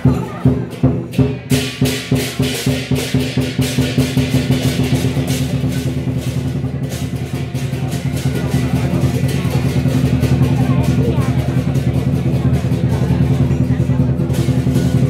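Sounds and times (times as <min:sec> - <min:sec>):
big drum beating fast: 0:00.0 - 0:15.0
clashing cymbals: 0:00.0 - 0:15.0.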